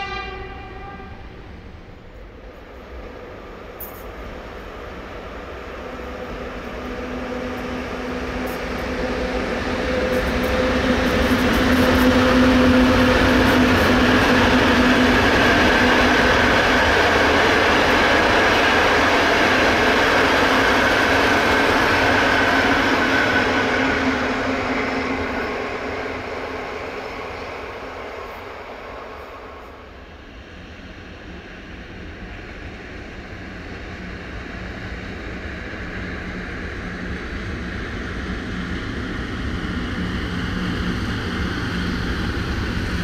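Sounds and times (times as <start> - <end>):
train rolling past: 0.0 - 43.0.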